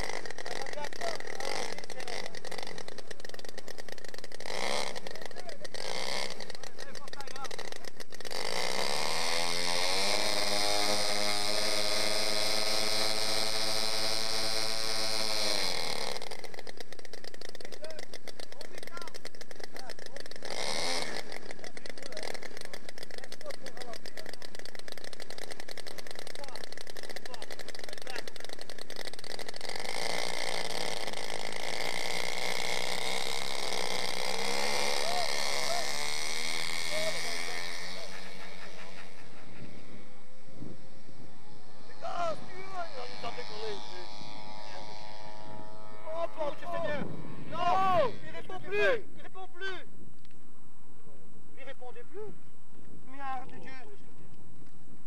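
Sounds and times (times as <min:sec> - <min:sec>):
model airplane engines revving: 0:00.0 - 0:49.7.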